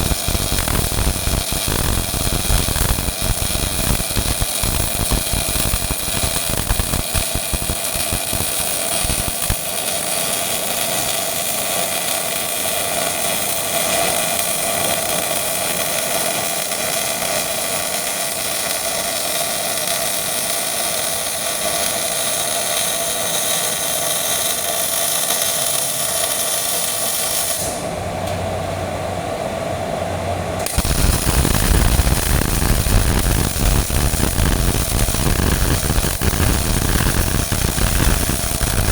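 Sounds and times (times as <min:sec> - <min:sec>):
welding arc crackling buzz: 0:00.0 - 0:27.9, 0:30.6 - 0:38.9.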